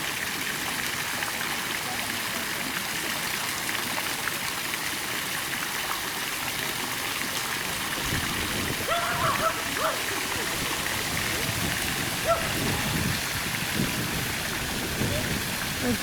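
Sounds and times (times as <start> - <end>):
water splashing into pond: 0.0 - 16.0.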